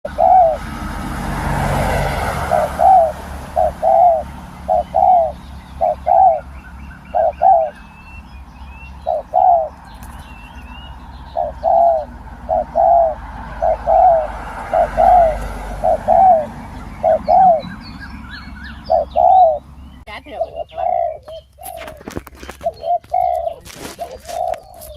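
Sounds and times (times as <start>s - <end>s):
small birds chirping: 0.0s - 0.7s, 1.9s - 24.9s
doves cooing: 0.0s - 8.3s, 8.9s - 24.9s.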